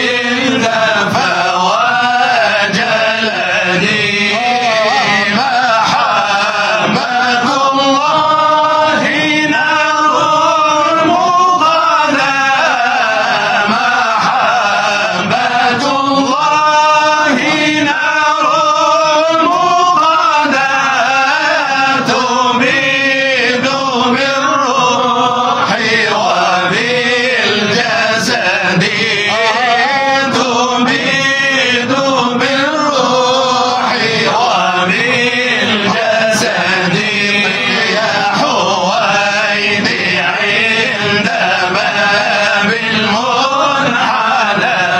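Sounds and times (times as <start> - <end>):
men chanting devotional song: 0.0 - 44.9.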